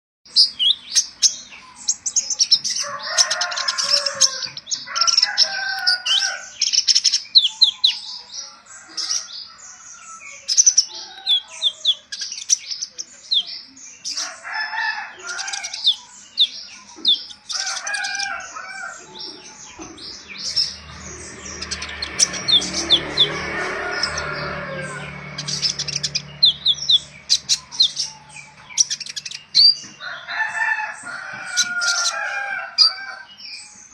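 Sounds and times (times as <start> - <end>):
songbird chirps and trills: 0.3 - 33.9.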